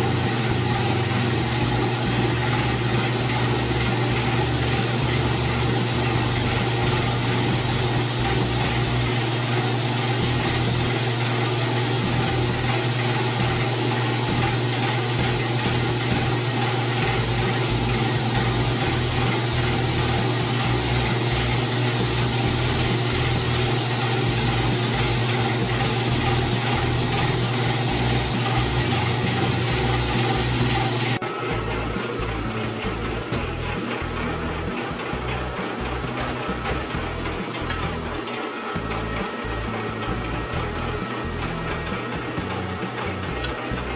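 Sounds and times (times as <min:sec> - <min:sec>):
electric oil press humming: 0:00.0 - 0:43.9.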